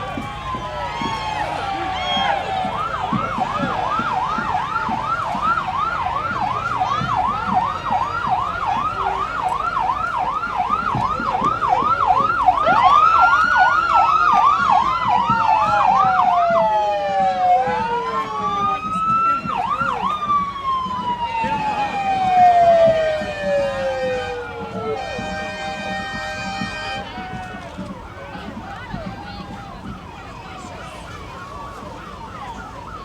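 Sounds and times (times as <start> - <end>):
siren fast yelp: 0.0 - 33.0
siren slow wail: 0.0 - 33.0.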